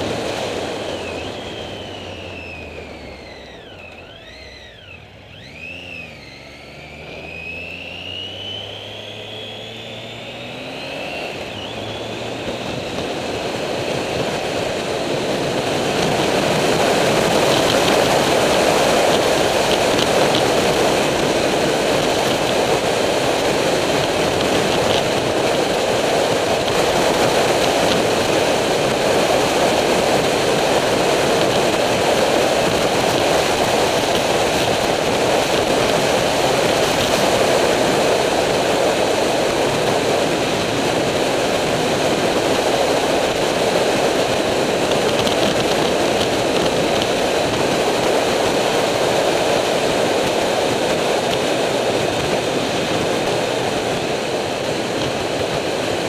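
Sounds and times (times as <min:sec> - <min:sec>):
wind rush: 0:00.0 - 0:02.2, 0:11.1 - 0:56.0
motorcycle road noise: 0:00.0 - 0:56.0.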